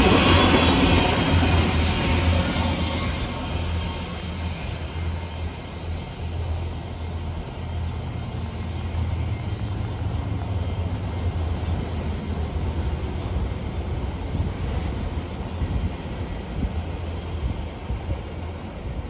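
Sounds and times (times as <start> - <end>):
train cars rumbling on track: 0.0 - 19.0.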